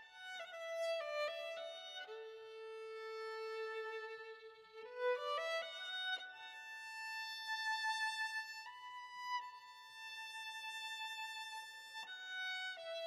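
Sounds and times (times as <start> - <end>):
solo violin melody: 0.0 - 13.0.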